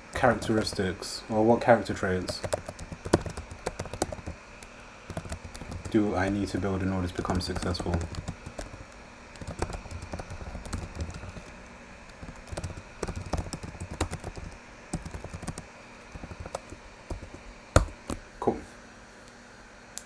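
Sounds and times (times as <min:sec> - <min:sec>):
computer keyboard typing: 0:00.1 - 0:01.1, 0:01.9 - 0:18.2.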